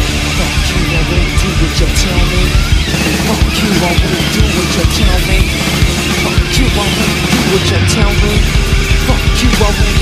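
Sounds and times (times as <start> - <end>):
drums: 0.0 - 10.0
loud rock music: 0.0 - 10.0.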